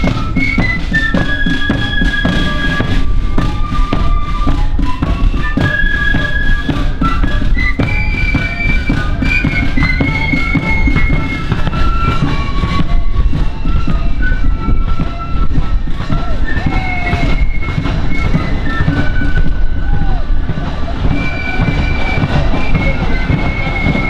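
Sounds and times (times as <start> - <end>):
flutes playing a tune: 0.0 - 24.0
marching drum beats: 0.0 - 24.0.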